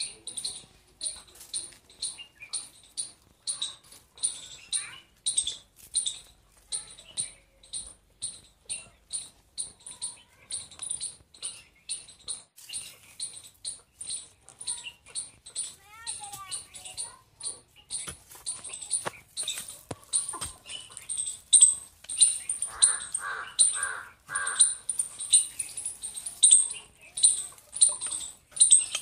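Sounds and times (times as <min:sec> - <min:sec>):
squeaky shoes squeaking: 0:00.0 - 0:29.0.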